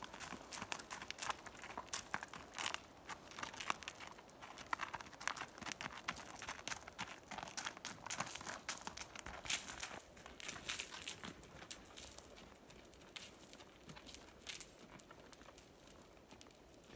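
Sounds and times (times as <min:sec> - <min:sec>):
horse hooves crunching on gravel: 0:00.0 - 0:16.9.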